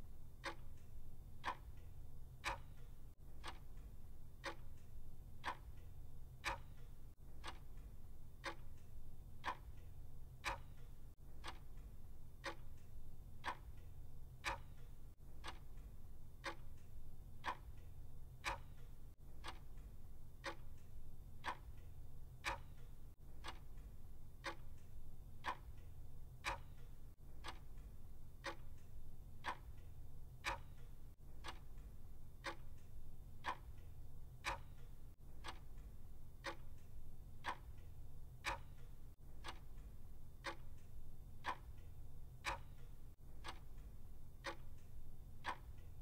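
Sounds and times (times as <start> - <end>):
clock ticking: 0.3 - 46.0.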